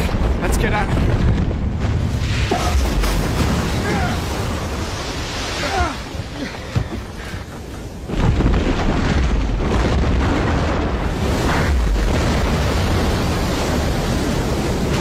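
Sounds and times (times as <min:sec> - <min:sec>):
deep rumbling rock crash: 0:00.0 - 0:05.6, 0:08.0 - 0:15.0.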